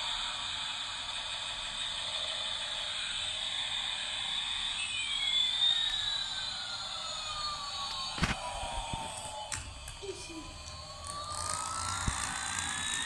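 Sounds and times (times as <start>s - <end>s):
toy electronic jet engine sound: 0.0s - 13.0s
whistling tone: 0.0s - 13.0s.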